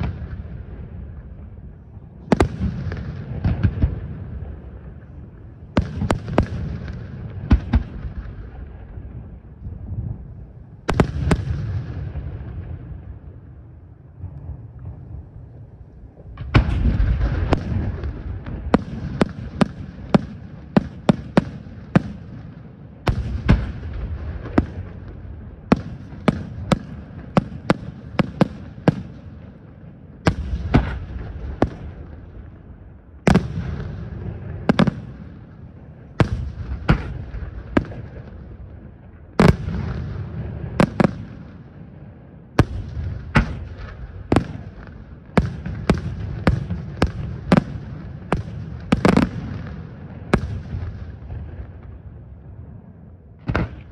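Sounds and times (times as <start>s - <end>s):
firework bangs: 0.0s - 1.6s, 2.2s - 13.3s, 16.2s - 41.9s, 42.5s - 52.4s, 53.4s - 53.9s.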